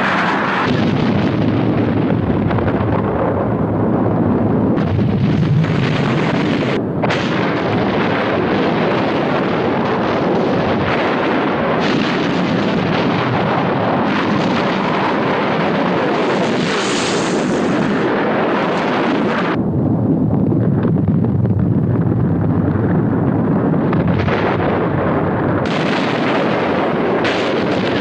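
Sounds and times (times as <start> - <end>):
volcanic explosive blasts and crackling: 0.0 - 28.0.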